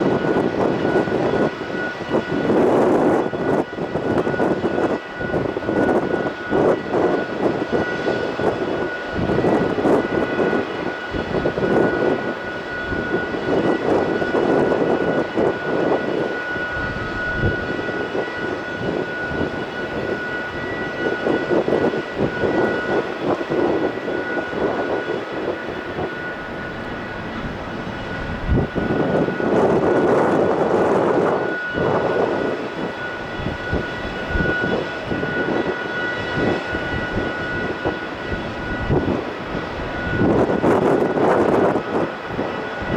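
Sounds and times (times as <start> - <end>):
jet engines whining and rumbling: 0.0 - 42.9
wind buffeting microphone: 0.0 - 42.9.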